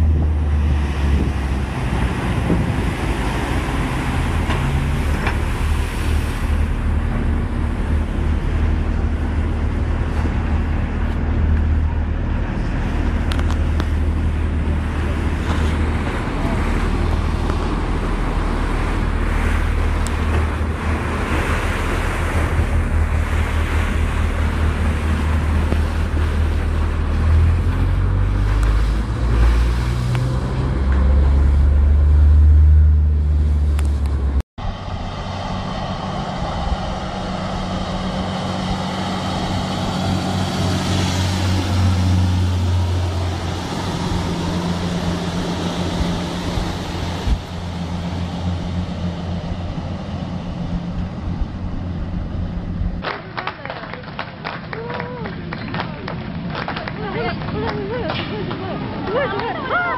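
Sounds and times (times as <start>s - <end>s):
boat engine drone: 0.0s - 59.9s
ship engine and wind rumble: 0.0s - 59.9s.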